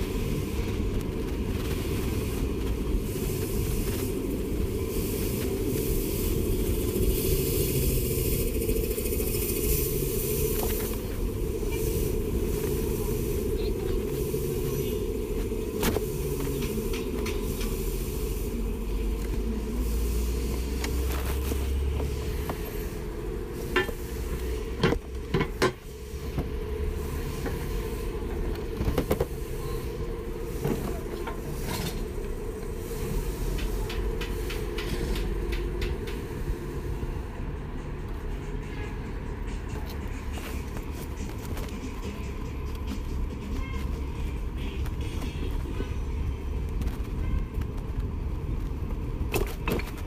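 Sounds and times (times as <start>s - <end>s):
bike tyres rumbling on pavement: 0.0s - 37.3s, 39.7s - 50.0s.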